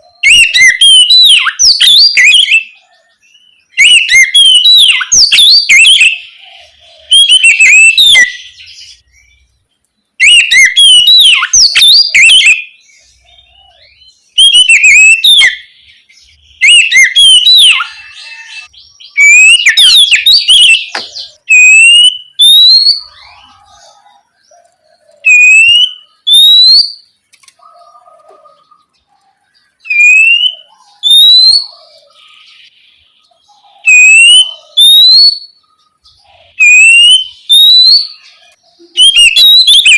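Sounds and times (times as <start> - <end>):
songbird whistling: 0.2 - 9.4, 10.2 - 29.0, 29.6 - 39.9.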